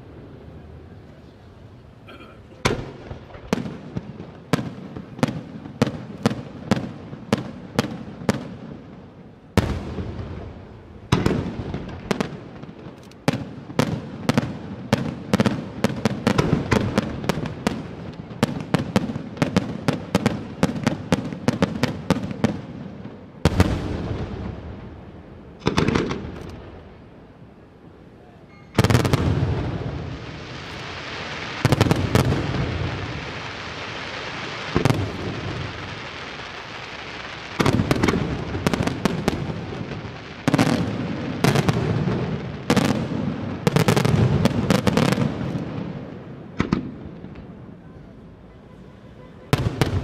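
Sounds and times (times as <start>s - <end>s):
fireworks bangs: 2.1s - 27.2s, 28.3s - 50.0s
heavy fireworks boom: 2.6s - 8.6s, 9.5s - 26.8s, 28.7s - 47.6s, 49.5s - 50.0s.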